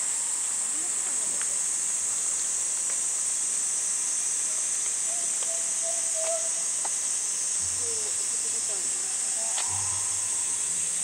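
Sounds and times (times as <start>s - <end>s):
cicadas singing: 0.0s - 11.0s.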